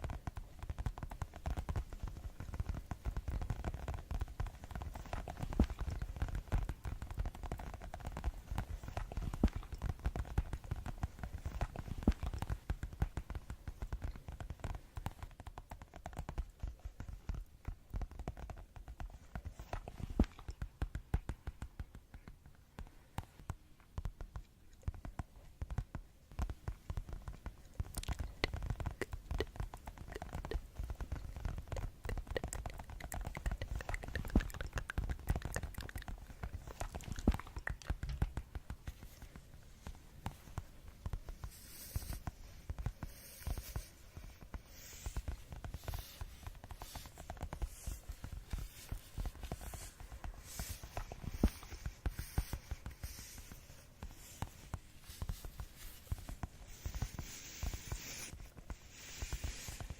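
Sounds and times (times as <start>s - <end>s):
fast asmr tapping: 0.0s - 59.9s.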